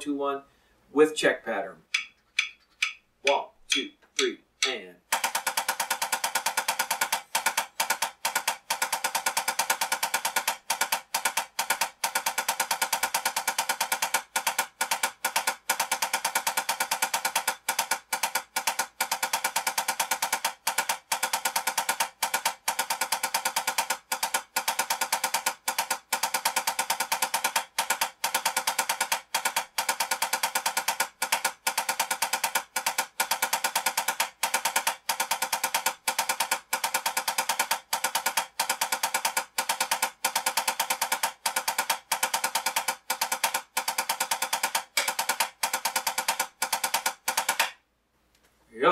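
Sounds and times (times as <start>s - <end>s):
drumsticks tapping a practice pad: 1.9s - 47.8s.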